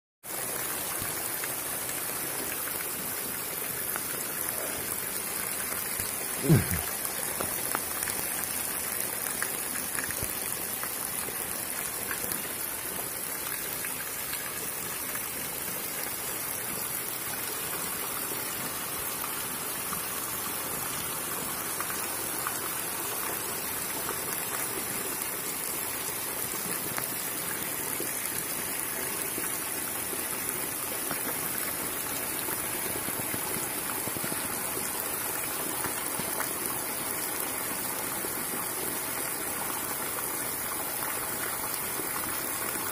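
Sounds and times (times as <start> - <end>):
rain falling on wet ground: 0.2 - 42.9.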